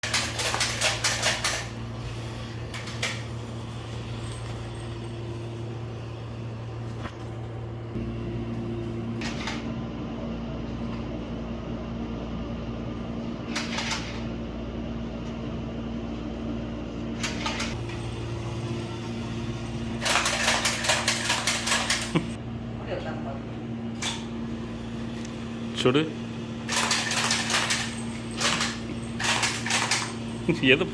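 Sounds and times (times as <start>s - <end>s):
steady mechanical hum: 0.0s - 30.9s.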